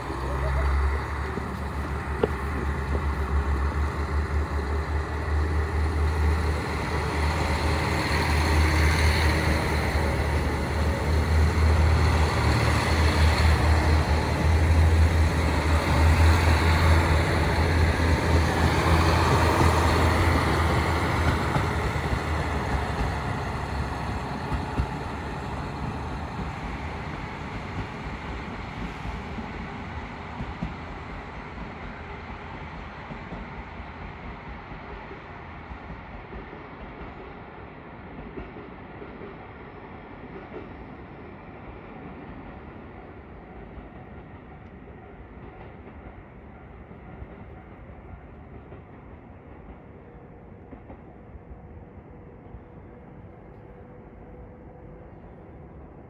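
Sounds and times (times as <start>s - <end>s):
diesel train engine drone: 0.0s - 56.0s.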